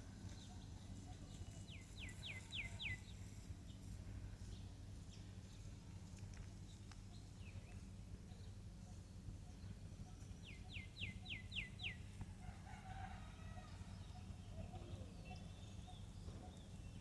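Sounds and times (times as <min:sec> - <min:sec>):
wild birds chirping: 0:00.0 - 0:17.0.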